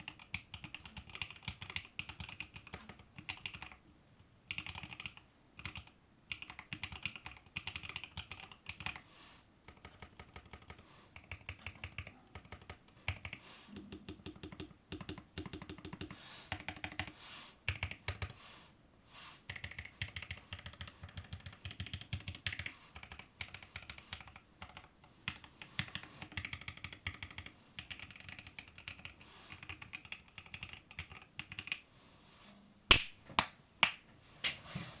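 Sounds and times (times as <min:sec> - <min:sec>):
mechanical keyboard typing: 0:00.0 - 0:03.8, 0:04.5 - 0:09.0, 0:09.7 - 0:17.1, 0:17.7 - 0:18.4, 0:19.5 - 0:31.8.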